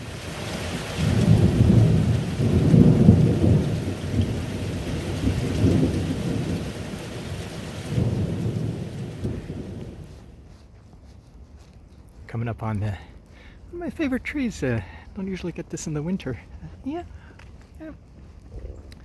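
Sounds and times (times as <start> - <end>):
wind buffeting microphone: 0.0 - 15.3.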